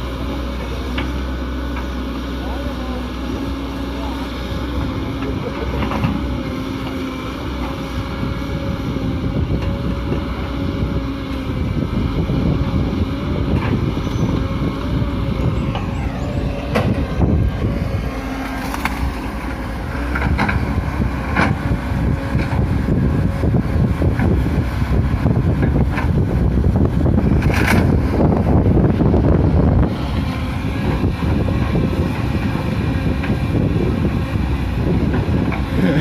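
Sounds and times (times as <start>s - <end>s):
excavator diesel engine whining: 0.0s - 36.0s.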